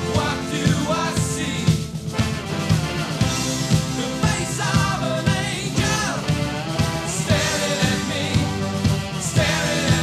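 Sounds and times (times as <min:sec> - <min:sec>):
band song with drums and bass: 0:00.0 - 0:10.0.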